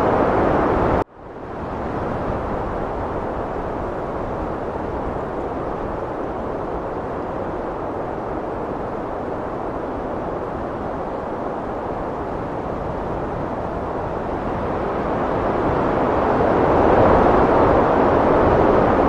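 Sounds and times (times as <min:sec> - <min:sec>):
heavy wind rushing: 0:00.0 - 0:19.0.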